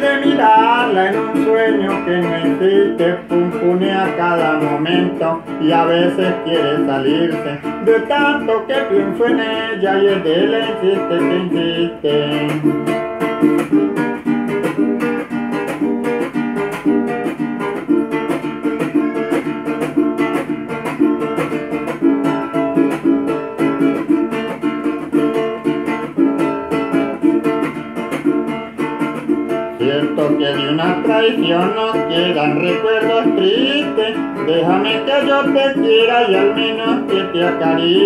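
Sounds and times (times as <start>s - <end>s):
small guitar strummed: 0.0s - 38.0s.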